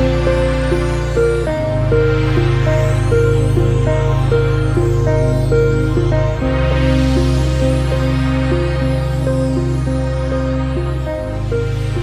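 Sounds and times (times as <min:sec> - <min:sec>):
gentle melody: 0:00.0 - 0:12.0
steady low bass: 0:00.0 - 0:12.0.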